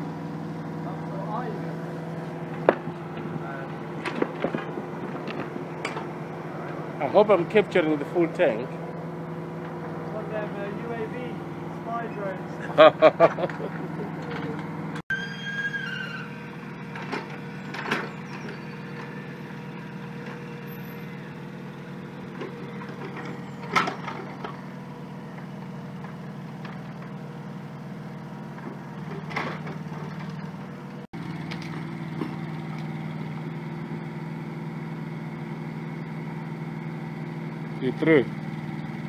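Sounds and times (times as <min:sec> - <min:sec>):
small diesel engine running: 0:00.0 - 0:39.0.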